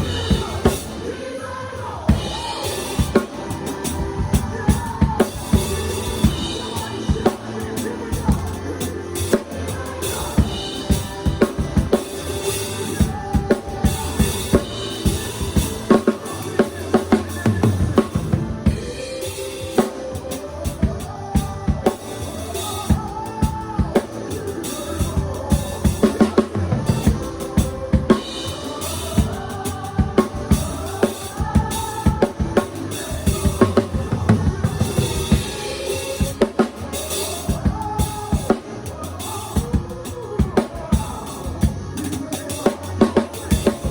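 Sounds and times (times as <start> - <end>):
drum kit playing: 0.0 - 1.3, 2.1 - 43.9
music with melody: 0.0 - 43.9.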